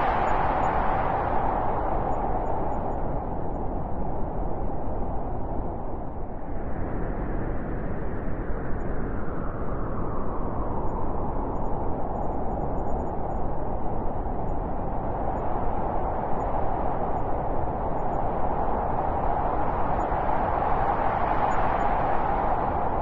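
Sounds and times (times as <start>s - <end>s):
blizzard wind blowing: 0.0s - 23.0s.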